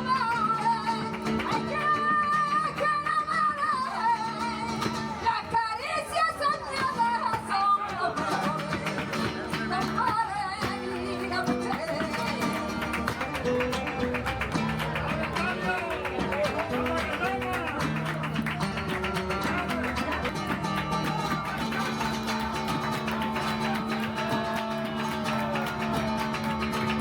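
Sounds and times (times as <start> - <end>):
strummed and plucked guitar: 0.0 - 27.0.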